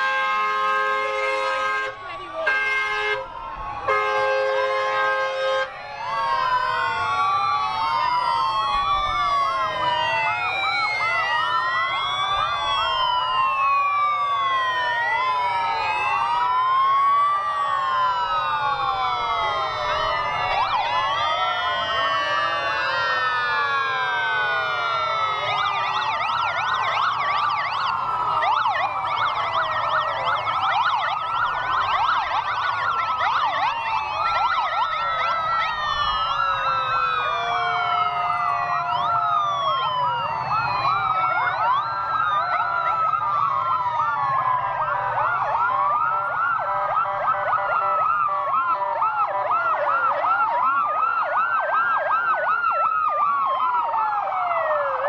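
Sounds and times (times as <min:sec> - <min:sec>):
police sirens wailing: 0:00.0 - 0:55.0
siren yelps: 0:00.0 - 0:55.0.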